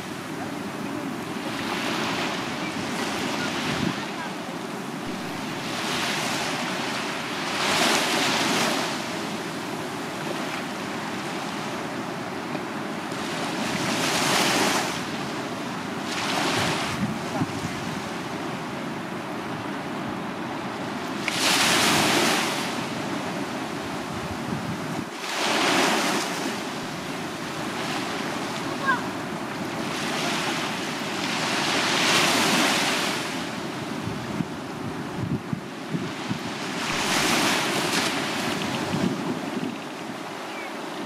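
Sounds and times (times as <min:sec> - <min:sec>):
surf hiss: 0:00.0 - 0:41.0
waves washing up a beach: 0:00.0 - 0:41.0.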